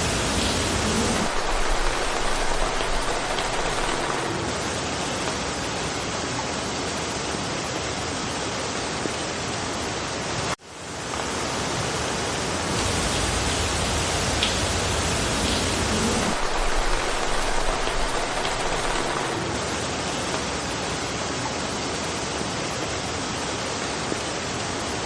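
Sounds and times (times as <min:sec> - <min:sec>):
rain falling through forest: 0:00.0 - 0:25.0.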